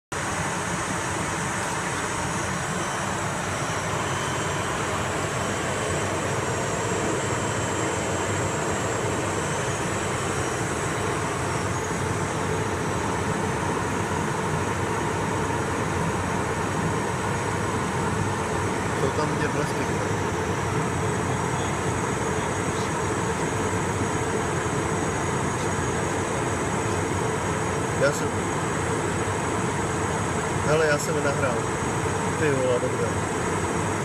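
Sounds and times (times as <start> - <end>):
aircraft engine drone: 0.1 - 34.0.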